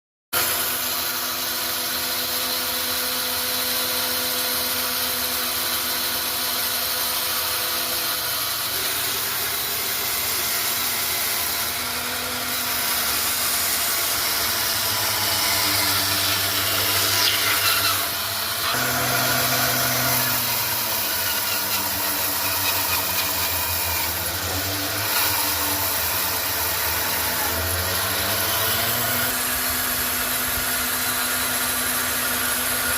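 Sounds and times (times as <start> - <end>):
power tool cutting wood: 0.4 - 32.9.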